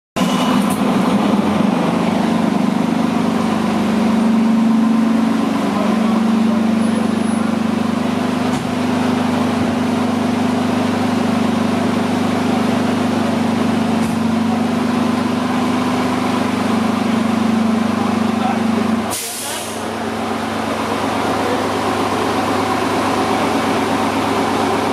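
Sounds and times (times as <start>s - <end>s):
diesel engine idling: 0.2s - 24.9s.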